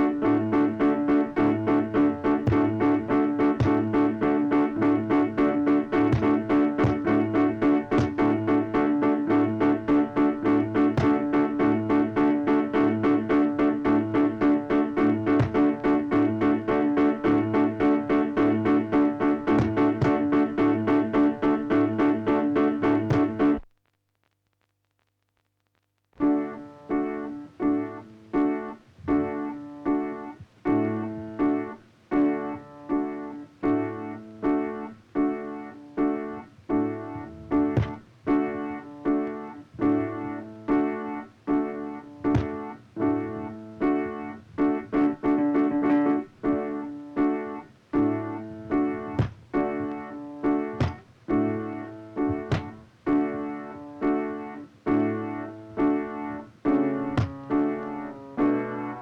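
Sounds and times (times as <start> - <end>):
repeated keyboard chord: 0.0 - 23.6, 26.2 - 59.0.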